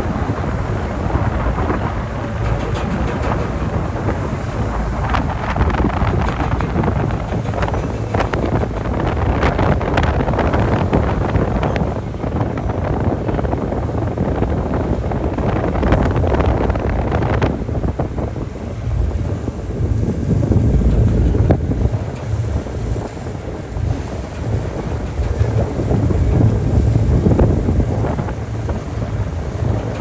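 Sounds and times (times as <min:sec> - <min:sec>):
waves rushing: 0:00.0 - 0:30.0
wind buffeting microphone: 0:00.0 - 0:30.0.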